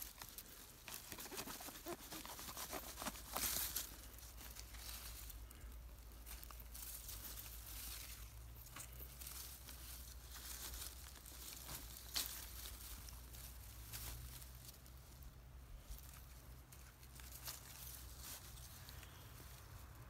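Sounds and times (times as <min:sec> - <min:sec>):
rustling and crackling from handling: 0:00.0 - 0:20.0.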